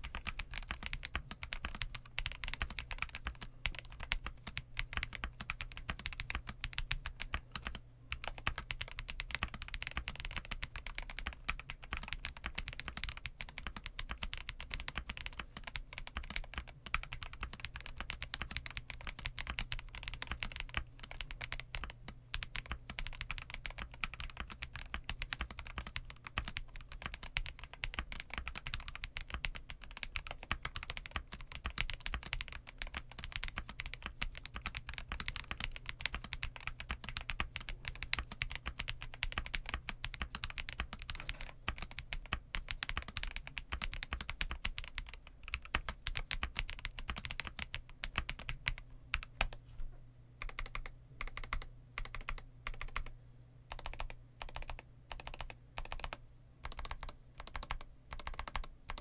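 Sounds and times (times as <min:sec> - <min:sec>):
fast mechanical keyboard typing: 0:00.0 - 0:49.6, 0:50.4 - 0:53.1, 0:53.7 - 0:59.0.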